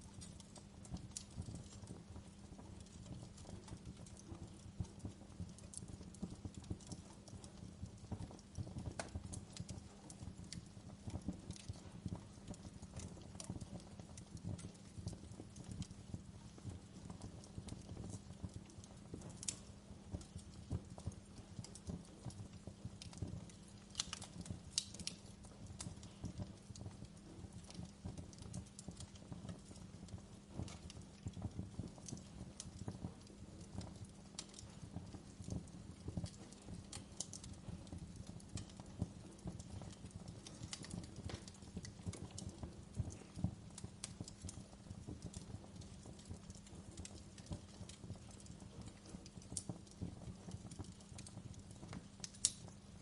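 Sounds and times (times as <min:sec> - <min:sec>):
wood fire crackling: 0:00.0 - 0:53.0
sharp fire pops: 0:00.2 - 0:22.4, 0:23.0 - 0:52.8.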